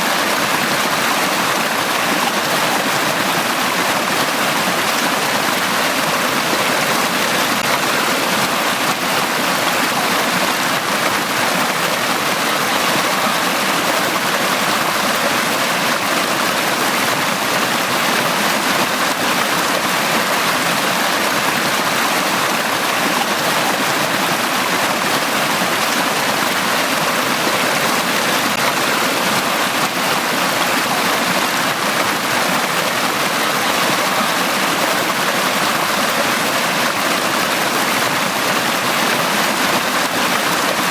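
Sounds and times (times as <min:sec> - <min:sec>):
water flowing over rocks: 0:00.0 - 0:40.9.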